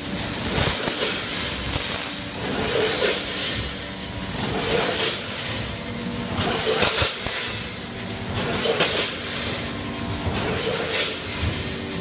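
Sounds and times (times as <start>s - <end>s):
machine hum: 0.0s - 12.0s
kernels rushing through machine: 0.1s - 12.0s.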